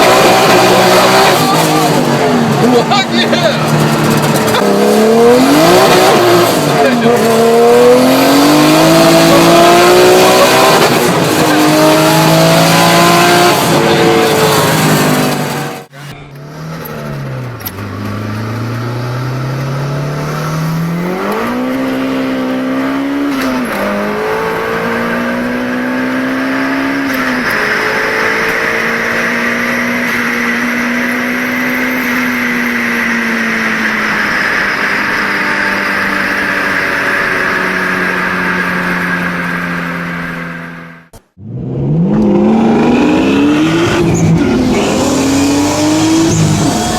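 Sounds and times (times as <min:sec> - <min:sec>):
turbocharged car engine accelerating: 0:00.0 - 0:46.9.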